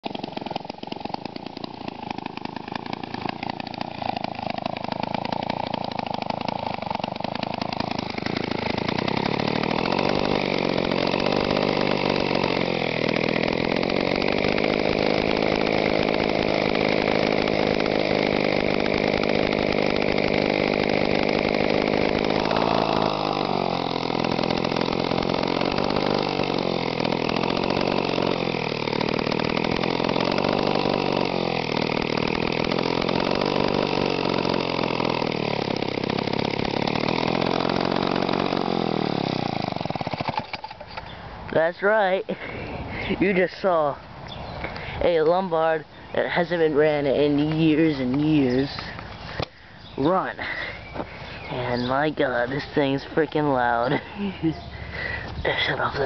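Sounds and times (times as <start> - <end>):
chainsaw engine running: 0.0 - 56.0.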